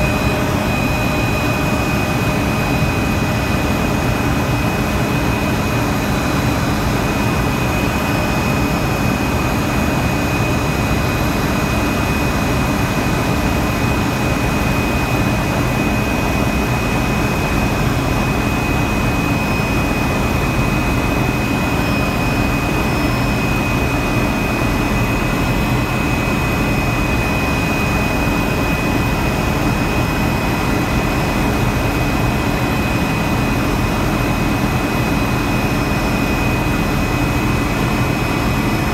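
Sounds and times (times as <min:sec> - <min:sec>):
helicopter cabin rumble: 0:00.0 - 0:38.9
high whine: 0:00.0 - 0:38.9.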